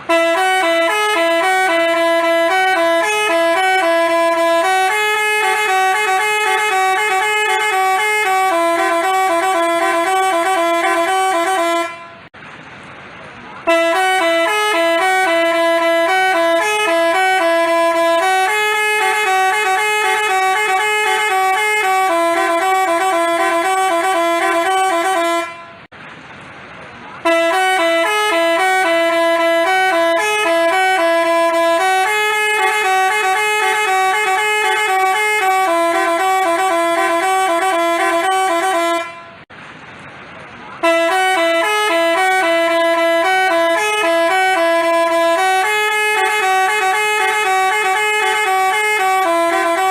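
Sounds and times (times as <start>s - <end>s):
multi-tone bus horn tune: 0.0s - 12.4s, 13.6s - 25.9s, 27.2s - 39.5s, 40.8s - 49.9s.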